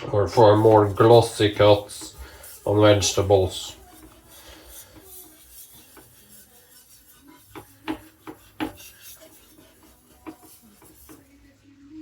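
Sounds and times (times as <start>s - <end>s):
cleaver rubbing on sharpening stone: 0.3s - 11.5s.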